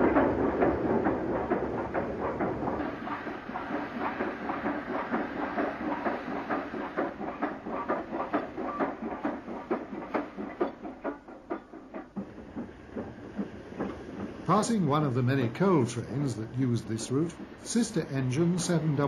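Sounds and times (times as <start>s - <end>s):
steam train chugging past: 0.0s - 19.0s.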